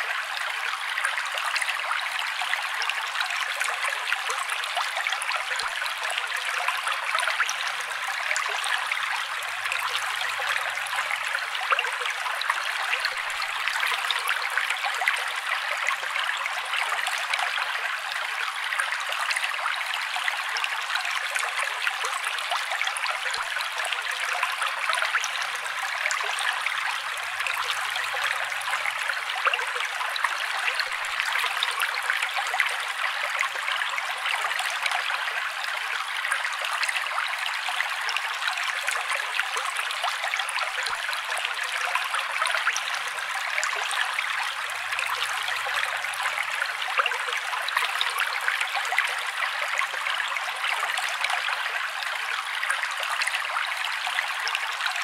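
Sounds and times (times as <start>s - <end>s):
water trickling and bubbling: 0.0s - 55.0s.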